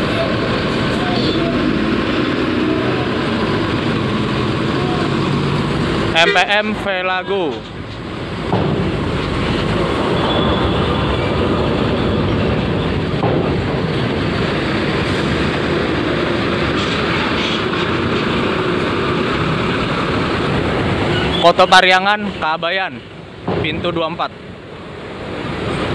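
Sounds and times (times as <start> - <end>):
bus rumbling: 0.0 - 25.9.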